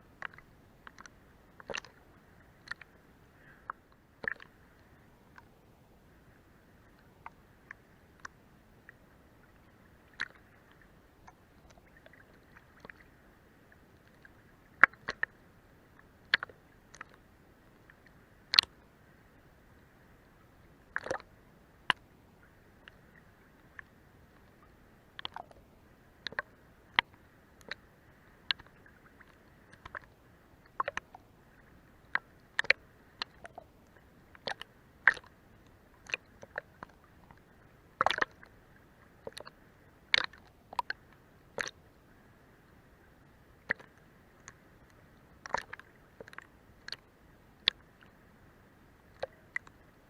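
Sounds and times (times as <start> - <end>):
faint steady hiss: 0.0 - 50.0
water lapping under boat hull: 0.0 - 50.0.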